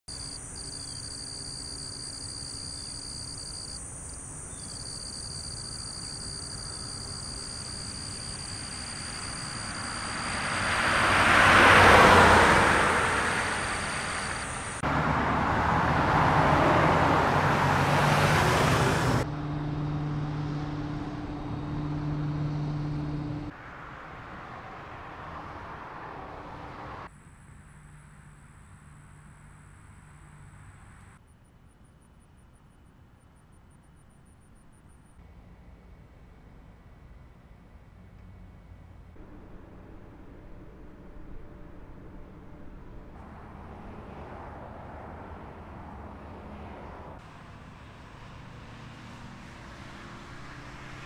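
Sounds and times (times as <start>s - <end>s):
car passing: 0.1s - 31.2s, 35.5s - 51.0s.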